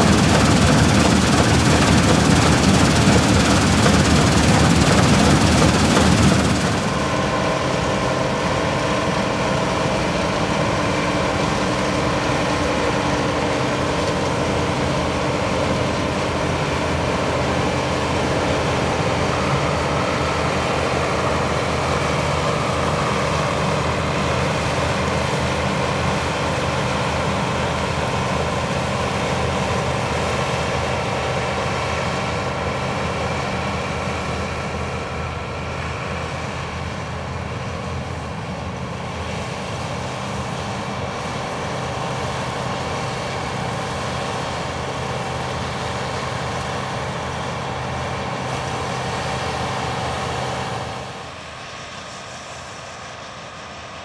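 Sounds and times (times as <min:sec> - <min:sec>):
combine harvester mechanical drone: 0:00.0 - 0:54.0.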